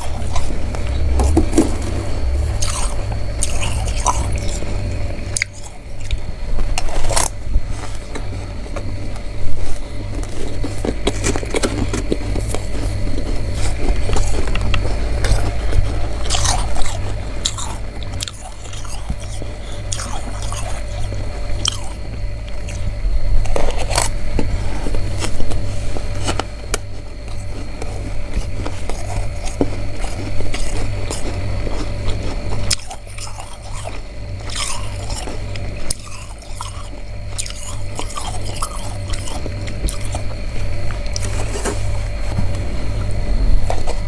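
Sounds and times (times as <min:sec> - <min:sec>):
frost being chewed crunching: 0:00.0 - 0:44.0
low hum: 0:00.0 - 0:44.0.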